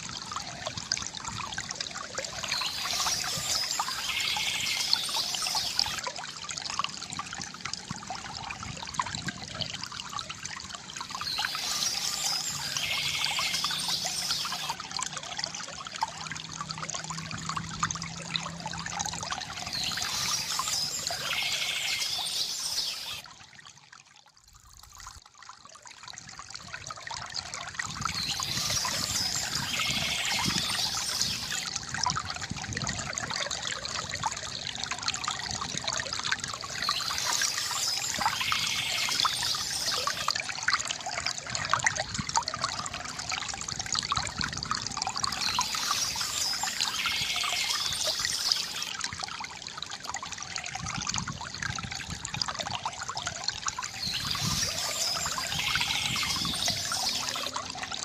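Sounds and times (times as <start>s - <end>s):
river water trickling and gurgling: 0.0s - 58.0s.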